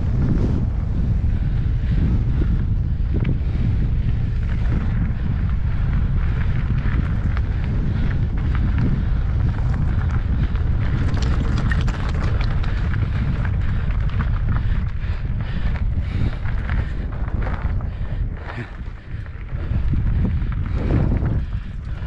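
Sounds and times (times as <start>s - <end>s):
bike clicks and rattles: 0.0s - 22.0s
wind buffeting microphone: 0.0s - 22.0s.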